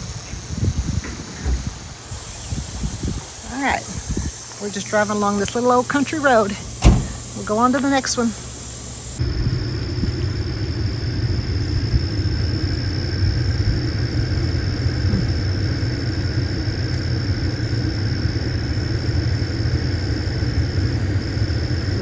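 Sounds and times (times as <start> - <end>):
vehicle road and engine rumble: 0.0 - 22.0.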